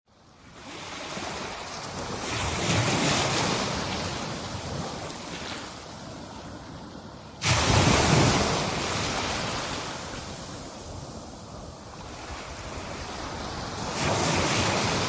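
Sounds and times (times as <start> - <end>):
ocean wave breaking: 0.4 - 15.0.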